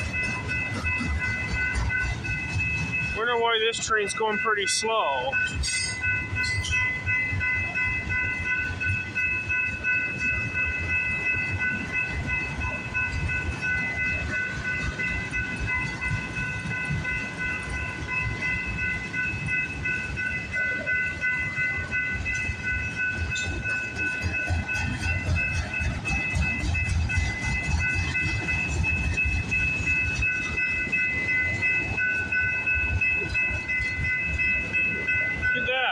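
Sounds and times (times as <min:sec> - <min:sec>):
freight train rumbling and clacking: 0:00.0 - 0:35.9
high multi-tone ringing: 0:00.0 - 0:35.9.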